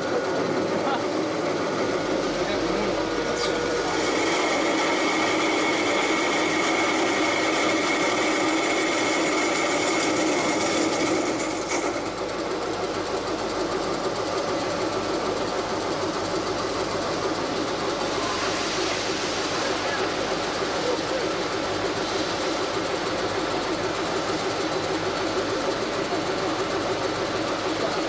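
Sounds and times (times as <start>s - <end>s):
lathe machine whir: 0.0s - 28.0s.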